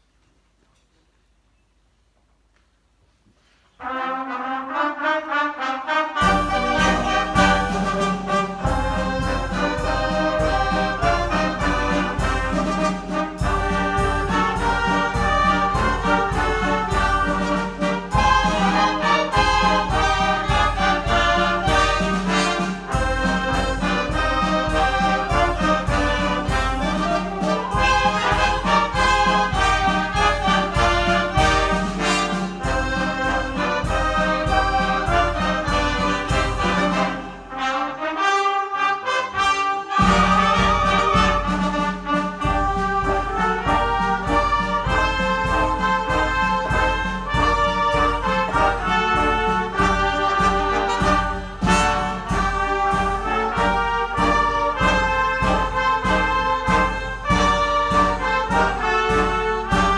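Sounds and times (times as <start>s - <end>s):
wind band playing a march: 3.7s - 59.9s
steady drum beat: 6.2s - 37.7s, 39.4s - 59.9s.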